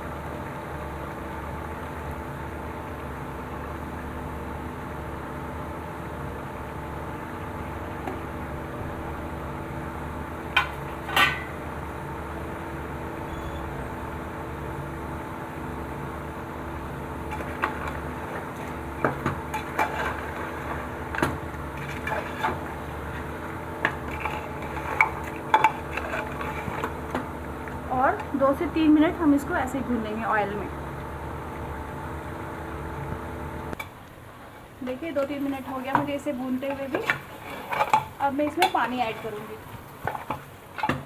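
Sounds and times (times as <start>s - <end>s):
steady hum: 0.0s - 41.0s.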